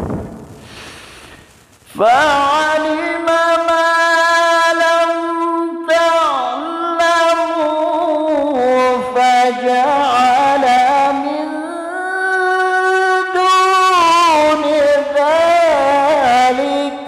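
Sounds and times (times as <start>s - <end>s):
man reciting melodically: 1.9s - 17.0s.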